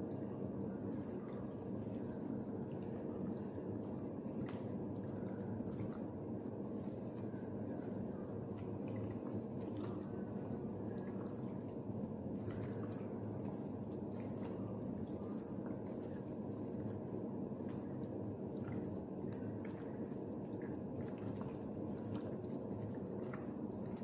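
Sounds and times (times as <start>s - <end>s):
steady low hum: 0.0s - 24.0s
wet squelches of kneading meat: 0.1s - 24.0s.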